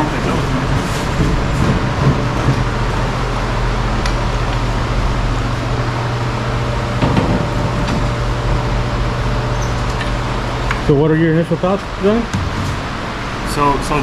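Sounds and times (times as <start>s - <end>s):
fan humming and whooshing: 0.0s - 14.0s.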